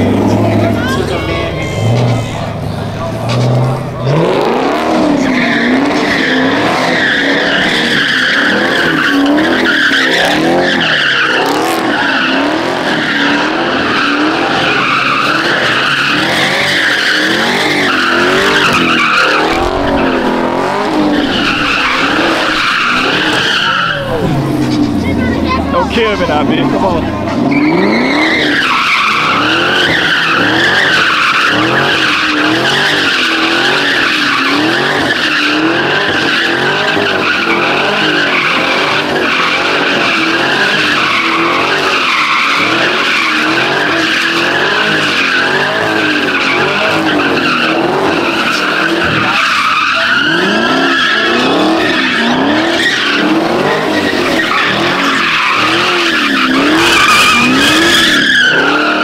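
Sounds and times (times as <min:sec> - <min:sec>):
car engine revving: 0:00.0 - 0:59.0
tyres squealing: 0:00.0 - 0:59.0.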